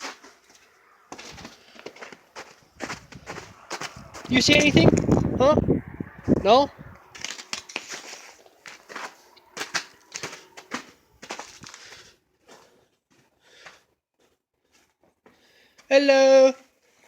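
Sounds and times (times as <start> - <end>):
footsteps: 0.0 - 5.6, 6.2 - 15.4.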